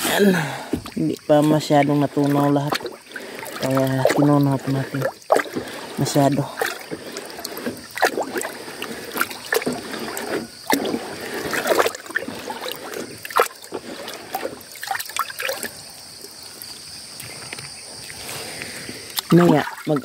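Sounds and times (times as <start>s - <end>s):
water sloshing in a basin: 0.0s - 20.0s
water splashing: 0.0s - 20.0s.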